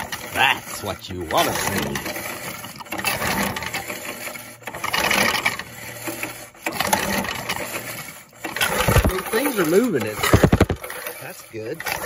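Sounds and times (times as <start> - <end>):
pull starter engine whirring: 0.0 - 12.0.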